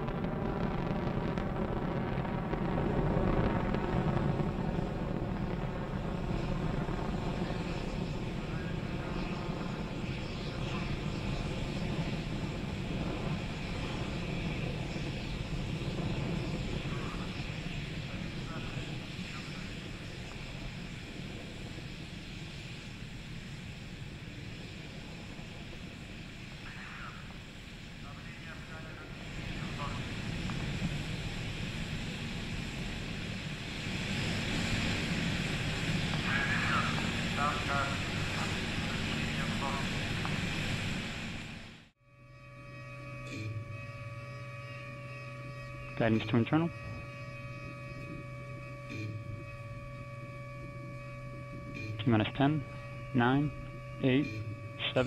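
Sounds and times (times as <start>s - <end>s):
rocket engines rumbling: 0.0s - 55.0s.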